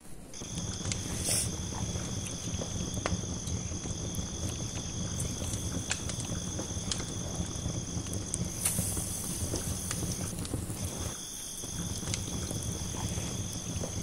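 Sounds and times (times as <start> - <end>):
campfire crackling and popping: 0.3 - 14.0.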